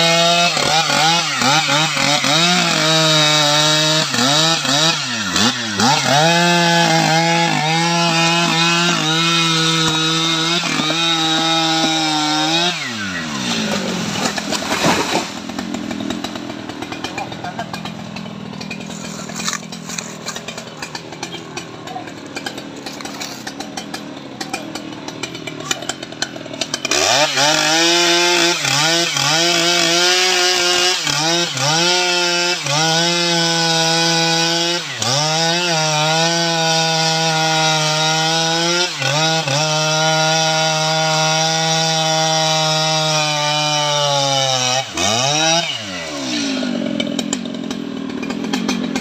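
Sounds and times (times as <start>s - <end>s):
chainsaw cutting into log: 0.0s - 49.0s.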